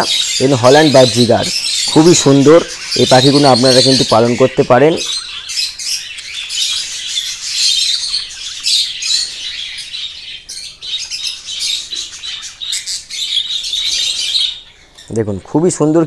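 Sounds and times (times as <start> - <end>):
budgerigars chirping: 0.0 - 16.0.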